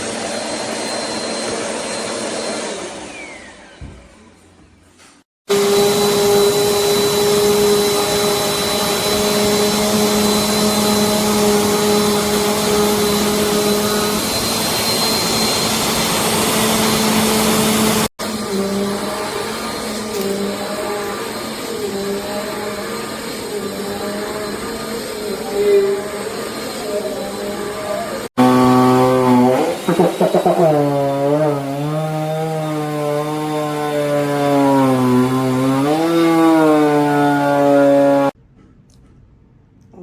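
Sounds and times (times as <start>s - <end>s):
vacuum cleaner motor hum: 0.0s - 4.3s, 5.5s - 38.4s.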